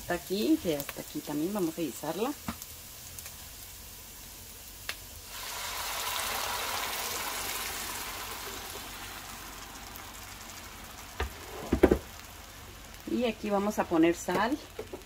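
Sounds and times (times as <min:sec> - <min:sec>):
sauce sizzling in hot oil: 0:00.0 - 0:15.0.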